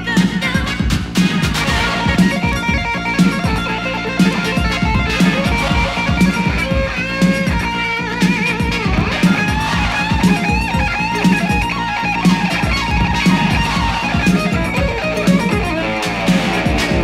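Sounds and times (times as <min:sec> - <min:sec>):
electric guitar instrumental music: 0:00.0 - 0:17.0.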